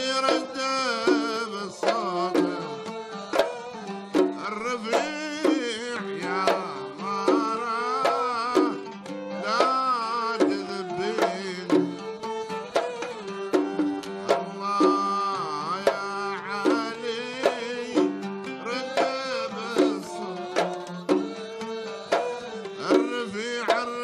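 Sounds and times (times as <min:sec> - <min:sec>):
hand drum strokes: 0:00.0 - 0:24.0
violin melody: 0:00.0 - 0:24.0.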